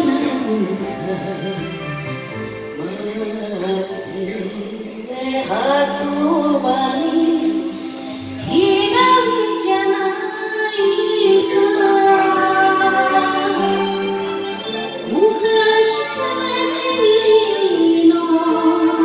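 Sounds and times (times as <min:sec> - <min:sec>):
woman singing into microphone: 0:00.0 - 0:02.0, 0:02.8 - 0:19.0
karaoke backing track: 0:00.0 - 0:19.0.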